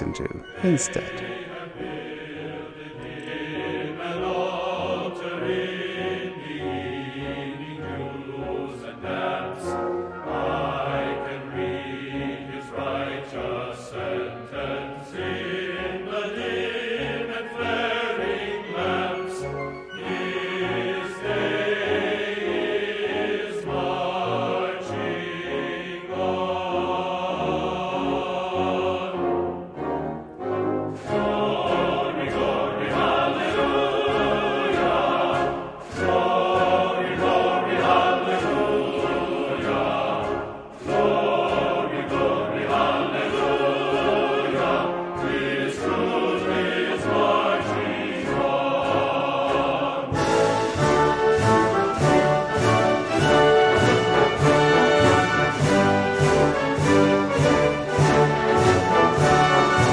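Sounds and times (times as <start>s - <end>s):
background music: 0.0s - 59.9s.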